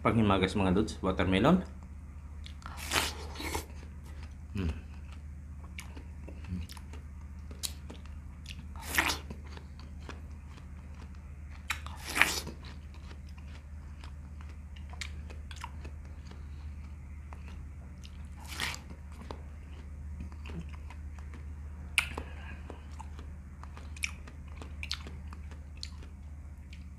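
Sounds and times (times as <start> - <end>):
steady low hum: 0.0 - 26.9
biting and chewing watermelon: 1.7 - 26.9.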